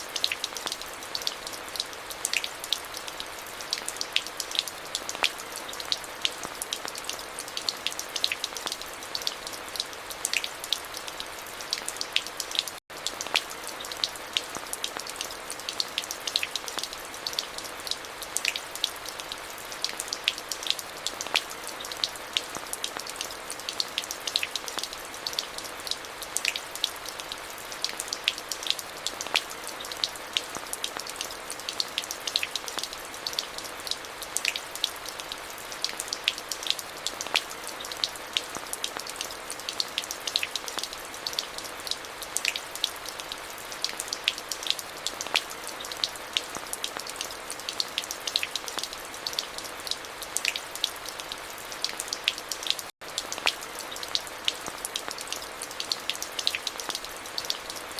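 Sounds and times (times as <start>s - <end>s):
rain drops striking hard surfaces: 0.0s - 57.9s.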